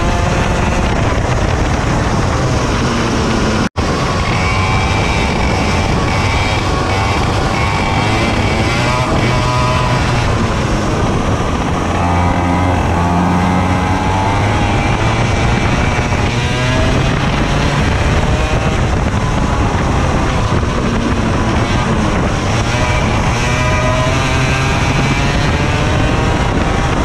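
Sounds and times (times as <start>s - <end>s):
racing kart engine: 0.0s - 27.0s.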